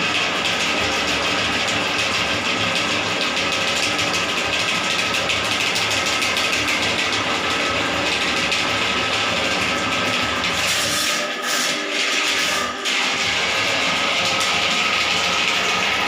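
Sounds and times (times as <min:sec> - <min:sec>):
drain-cleaning machine motor: 0:00.0 - 0:16.0.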